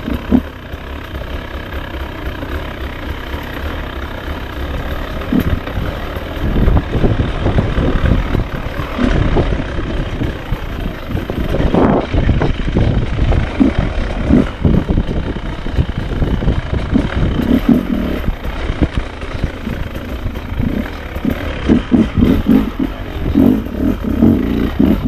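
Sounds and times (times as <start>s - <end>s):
two-stroke motorcycle engine: 0.0s - 25.0s.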